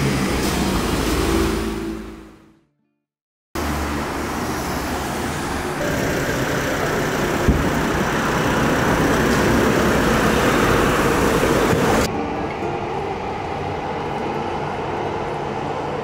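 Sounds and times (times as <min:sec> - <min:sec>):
road traffic passing: 0:00.0 - 0:02.6, 0:03.6 - 0:16.0.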